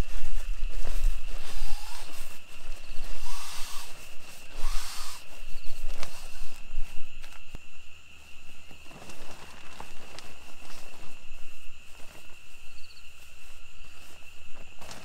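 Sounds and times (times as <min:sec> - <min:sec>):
high insect drone: 0:00.0 - 0:15.0
sleeping bag fabric rustling: 0:00.0 - 0:15.0.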